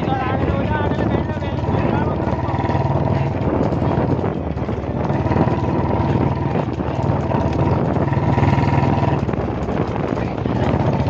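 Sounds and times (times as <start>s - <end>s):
road noise: 0.0s - 11.0s
vehicle engine running: 0.0s - 11.0s
wind noise: 0.0s - 11.0s.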